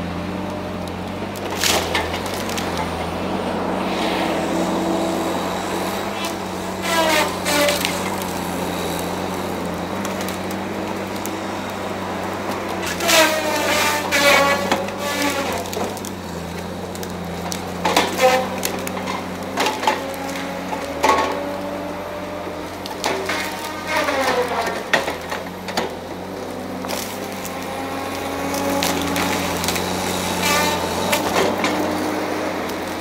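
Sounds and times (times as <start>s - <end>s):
diesel engine running: 0.0s - 33.0s
branches snapping: 0.4s - 3.3s, 4.5s - 33.0s
wood creaking and cracking: 0.4s - 33.0s.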